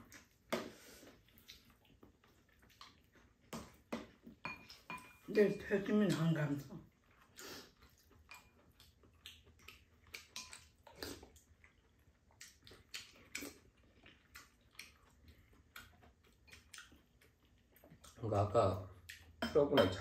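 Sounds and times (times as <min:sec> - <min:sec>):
chewing: 0:00.0 - 0:05.3, 0:06.0 - 0:19.4.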